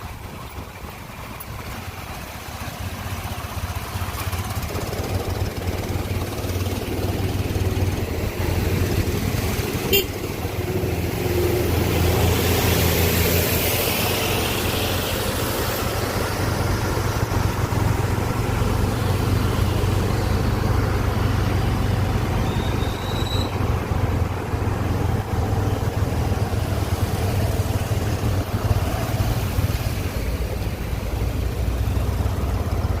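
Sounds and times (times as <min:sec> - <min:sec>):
road and wind noise: 0:00.0 - 0:33.0
vehicle engine humming: 0:00.0 - 0:33.0.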